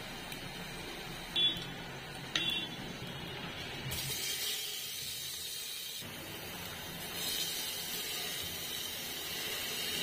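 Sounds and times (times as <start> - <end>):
onions sizzling in a pot: 0.0 - 10.0.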